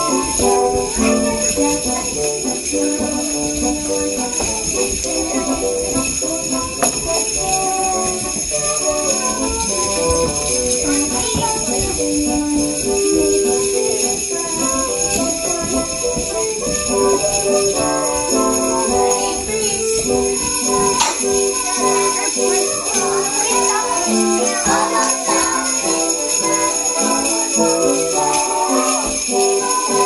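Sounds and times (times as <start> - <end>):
melodic music: 0.0 - 30.0
sleigh bells jingling: 0.0 - 30.0.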